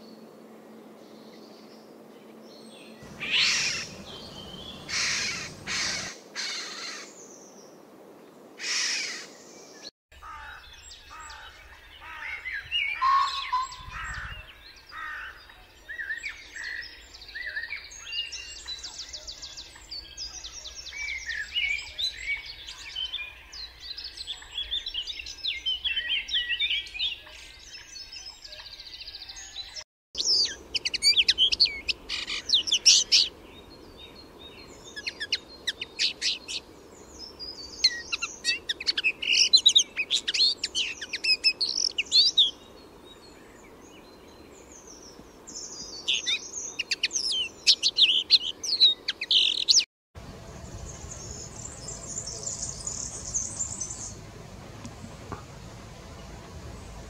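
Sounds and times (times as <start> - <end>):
blackbird song: 0.0 - 7.8, 8.7 - 57.0
linnet twittering song: 2.5 - 6.1, 10.7 - 54.3.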